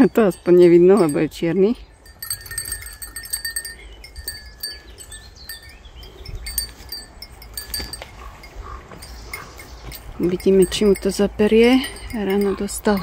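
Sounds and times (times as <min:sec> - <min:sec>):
small metal bell jingling: 0:00.0 - 0:13.0.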